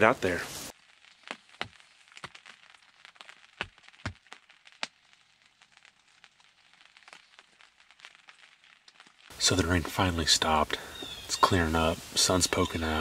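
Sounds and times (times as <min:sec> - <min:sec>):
rain pattering on fabric roof: 0:00.0 - 0:13.0.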